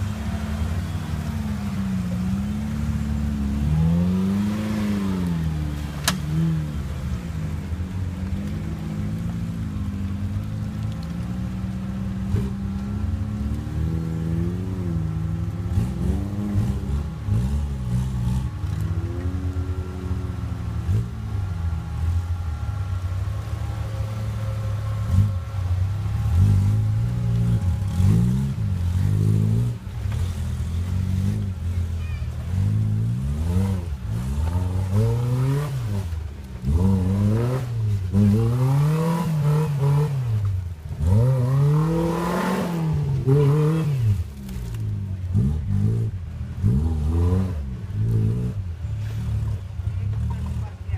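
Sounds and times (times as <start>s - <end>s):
off-road engines revving: 0.0s - 50.9s.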